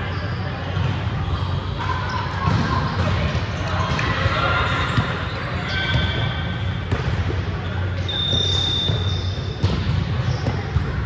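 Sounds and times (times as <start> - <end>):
ball impacts in echoing hall: 0.0 - 11.0
low hum of hall: 0.0 - 11.0.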